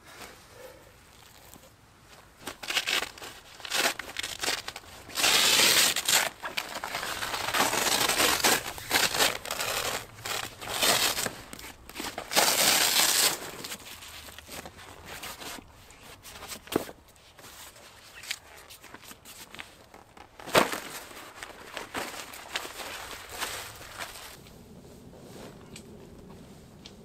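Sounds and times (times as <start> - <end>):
tent fabric rustling and crinkling: 0.0 - 27.0.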